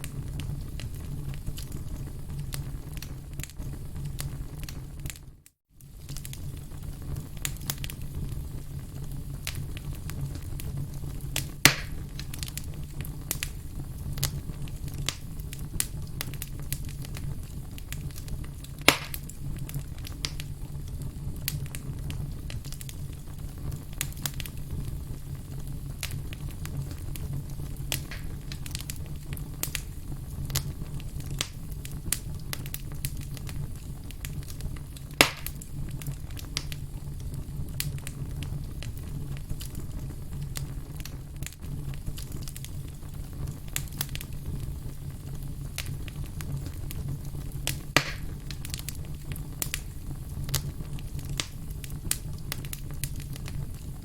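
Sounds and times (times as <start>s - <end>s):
campfire pops and snaps: 0.0s - 54.0s
flames rumbling: 0.0s - 54.0s.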